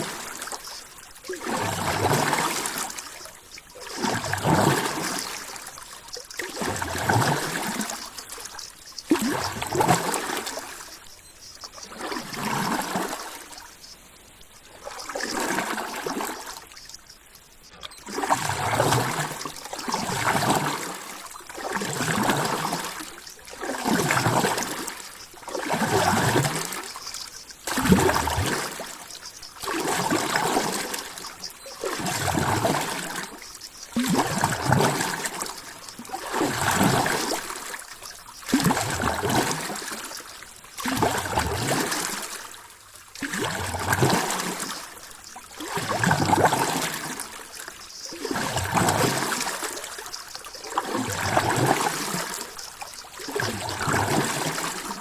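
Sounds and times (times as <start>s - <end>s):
water sloshing and lapping: 0.0s - 55.0s.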